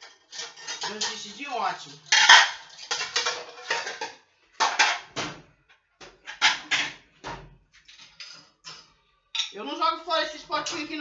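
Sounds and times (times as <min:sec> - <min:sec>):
dishes clattering: 0:00.0 - 0:09.6.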